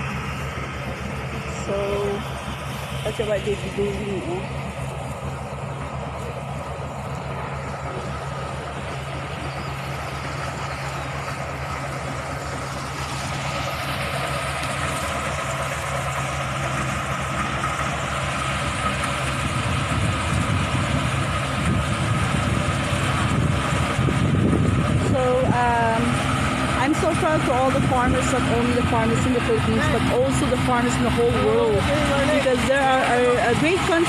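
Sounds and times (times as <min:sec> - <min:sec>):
harvesting machine engine whining: 0:00.0 - 0:34.0.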